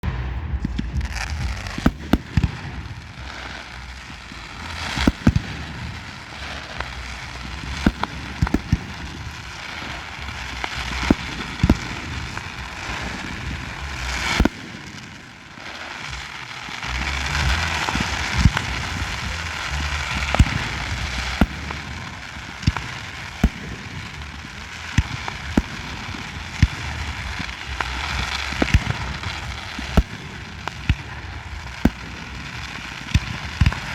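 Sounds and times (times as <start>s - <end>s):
continuous hiss: 0.0s - 33.9s
fireworks bangs: 0.0s - 33.9s.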